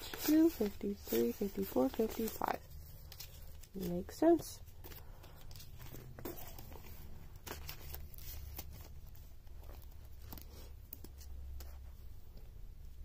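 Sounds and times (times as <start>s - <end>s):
plastic pockets crinkling: 0.0s - 11.3s.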